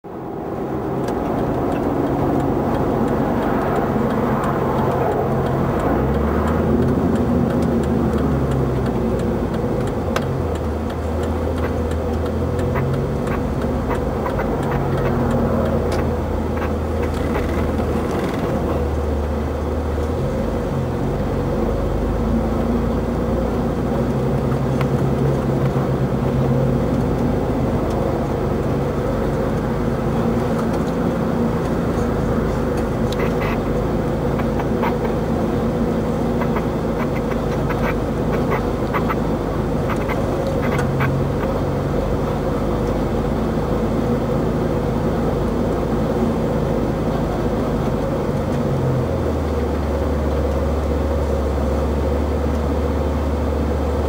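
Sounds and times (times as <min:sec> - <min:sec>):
road noise: 0:00.0 - 0:54.0
vehicle engine hum: 0:00.0 - 0:54.0.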